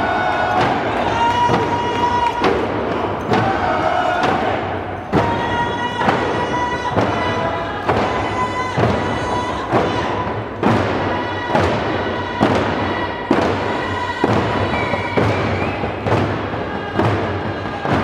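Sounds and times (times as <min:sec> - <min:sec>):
drum steady beat: 0:00.0 - 0:18.0.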